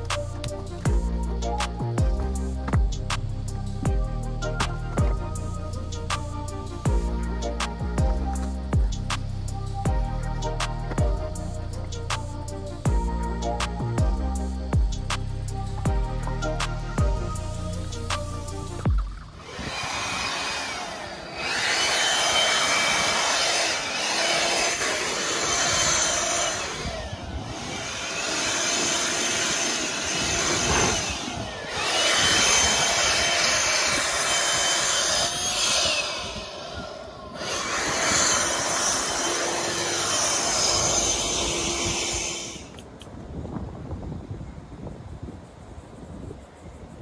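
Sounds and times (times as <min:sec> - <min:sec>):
electric blower whine: 0:00.0 - 0:43.0.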